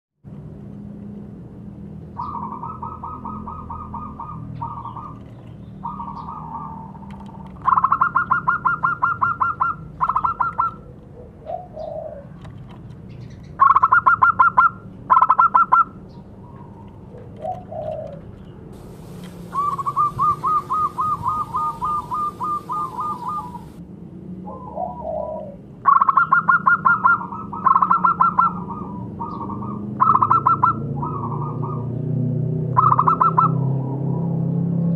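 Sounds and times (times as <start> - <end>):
dove cooing trill: 2.2 - 12.4, 13.6 - 23.8, 24.5 - 32.0, 32.8 - 33.6.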